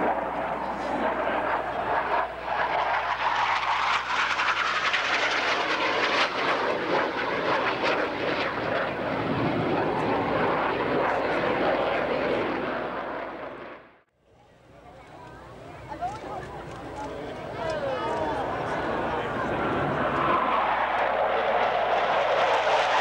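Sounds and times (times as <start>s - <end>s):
jets passing overhead: 0.0s - 14.1s, 16.5s - 23.0s.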